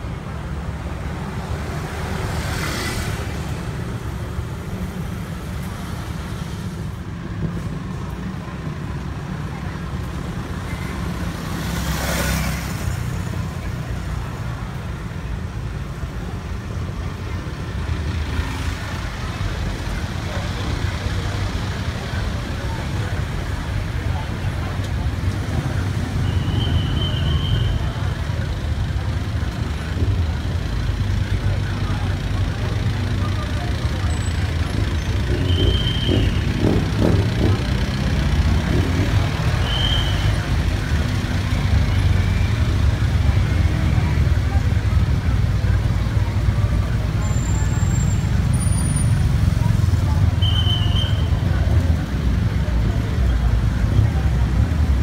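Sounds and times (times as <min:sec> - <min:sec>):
faint crowd voices: 0:00.0 - 0:55.0
road traffic rumble: 0:00.0 - 0:55.0.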